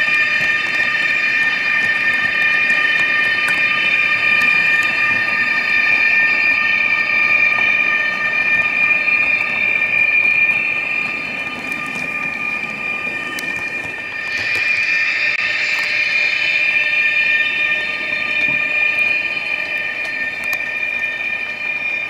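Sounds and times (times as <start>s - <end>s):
electric locomotive whine: 0.0s - 22.0s
model train rolling on track: 0.0s - 22.0s.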